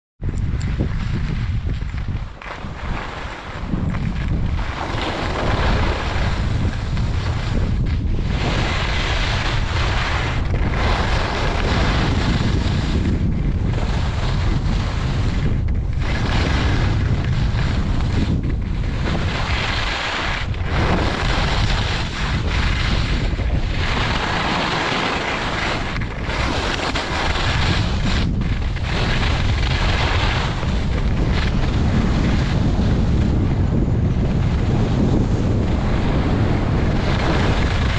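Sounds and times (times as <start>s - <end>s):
wind buffeting microphone: 0.2s - 37.9s
skis scraping over snow: 0.3s - 37.9s.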